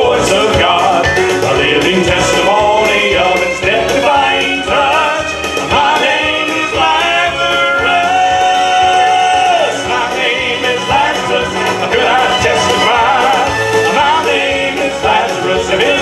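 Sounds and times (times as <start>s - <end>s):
male vocal group singing in harmony: 0.0s - 16.0s.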